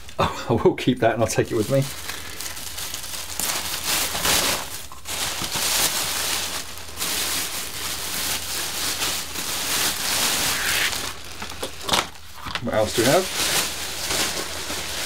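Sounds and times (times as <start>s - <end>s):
plastic bin bag rustling: 1.2s - 15.0s.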